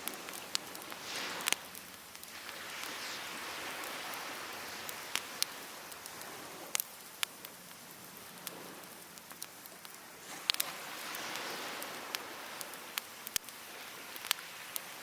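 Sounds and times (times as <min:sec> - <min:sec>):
crackling firewood: 0:00.0 - 0:15.0
surf washing onto beach: 0:00.0 - 0:15.0.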